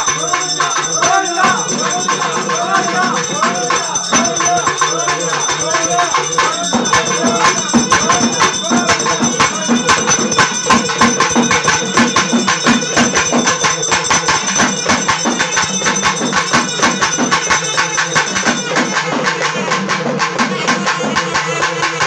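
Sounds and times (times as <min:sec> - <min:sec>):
fast folk drumming: 0:00.0 - 0:22.0
jingling tambourine-like strokes: 0:00.0 - 0:22.0.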